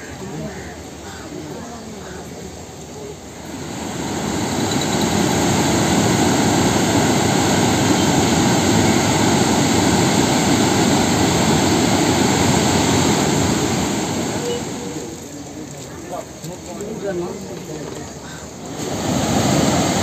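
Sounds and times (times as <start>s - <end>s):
water rushing over spillway: 0.0s - 20.0s.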